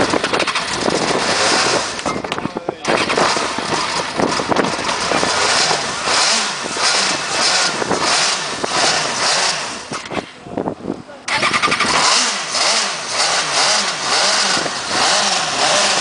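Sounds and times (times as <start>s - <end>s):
race car engine revving: 0.0s - 10.4s, 11.2s - 16.0s.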